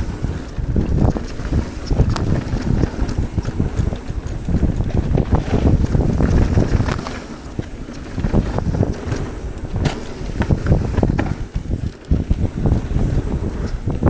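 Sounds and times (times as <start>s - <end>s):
bike knocking and clattering: 0.0s - 14.0s
tyres rumbling on dirt: 0.0s - 14.0s
wind buffeting microphone: 0.0s - 14.0s.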